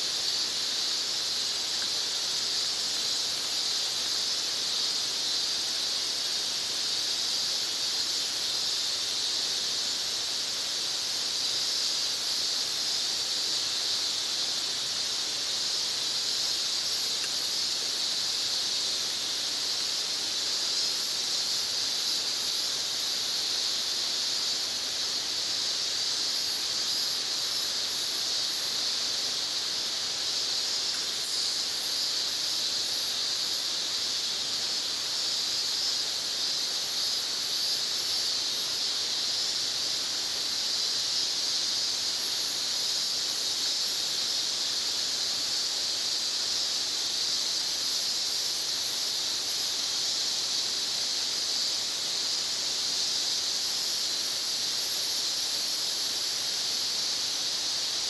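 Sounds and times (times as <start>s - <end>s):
insects chorus droning: 0.0s - 58.0s
pulsing high insect buzz: 0.0s - 58.0s.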